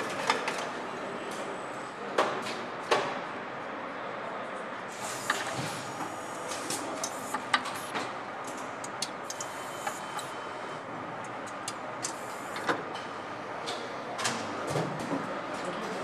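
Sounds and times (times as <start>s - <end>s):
factory background hum: 0.0s - 16.0s.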